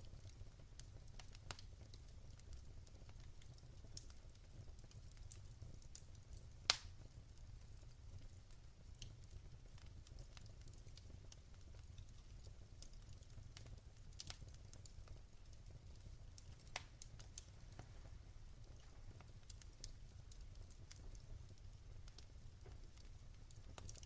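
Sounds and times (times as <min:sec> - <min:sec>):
fire pops and snaps: 0:00.0 - 0:24.0
wood fire crackling: 0:00.0 - 0:24.0.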